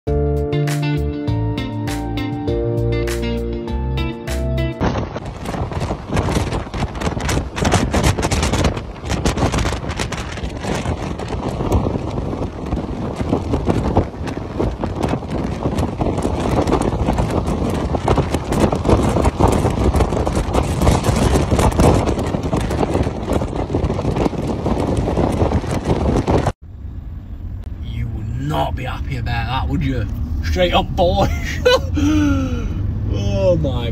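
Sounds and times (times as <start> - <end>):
strong wind buffeting microphone: 4.6 - 33.9.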